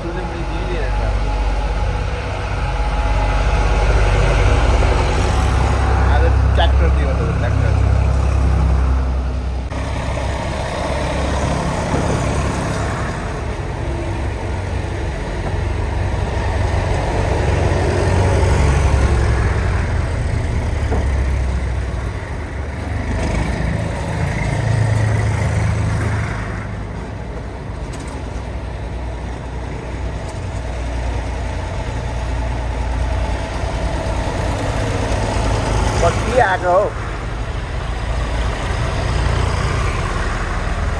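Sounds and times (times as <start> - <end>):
tractor engines running: 0.0 - 40.9.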